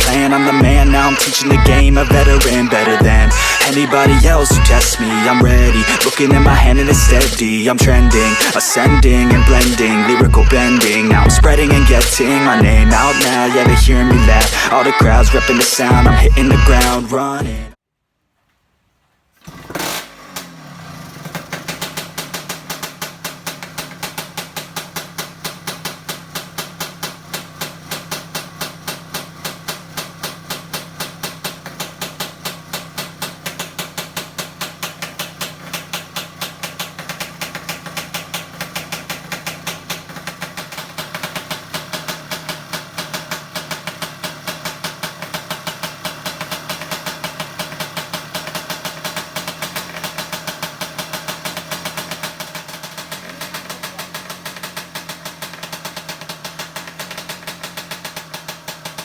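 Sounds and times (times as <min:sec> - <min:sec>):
motorcycle engine idling unevenly: 0:00.0 - 0:17.6, 0:19.4 - 0:59.0.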